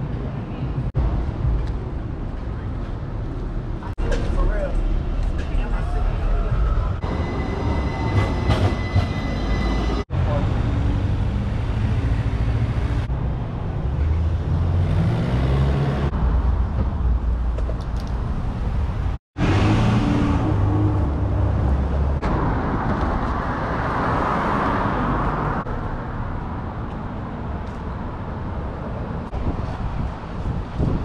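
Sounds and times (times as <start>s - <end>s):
cars and vans passing: 0.0s - 31.0s.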